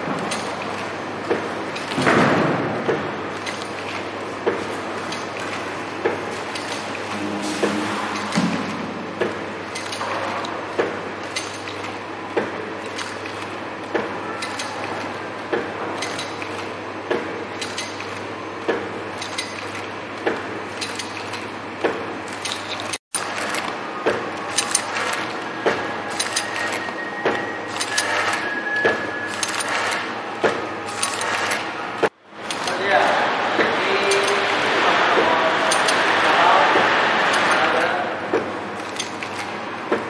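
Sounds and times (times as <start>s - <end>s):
packing machine motor hum: 0.0s - 40.0s
machine clacking: 0.1s - 40.0s.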